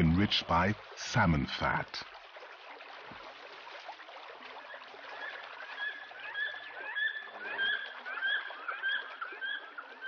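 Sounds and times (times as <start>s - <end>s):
stream water running: 0.0s - 10.0s.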